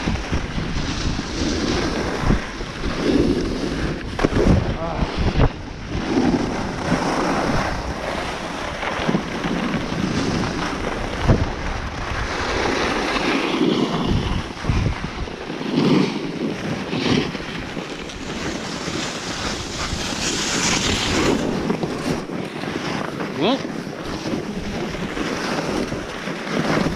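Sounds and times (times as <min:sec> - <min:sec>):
skis scraping over snow: 0:00.0 - 0:26.9
wind buffeting microphone: 0:00.0 - 0:26.9.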